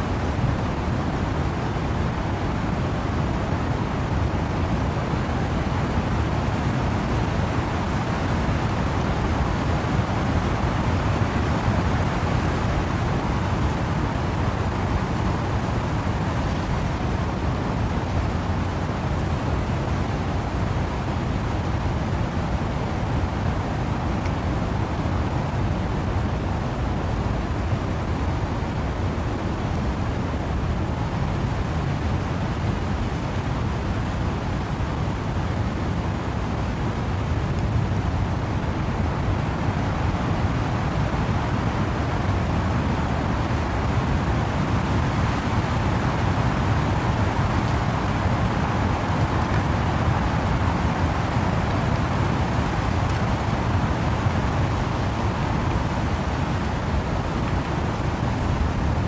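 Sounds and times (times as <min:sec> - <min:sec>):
wind and rain through trees: 0:00.0 - 0:59.0.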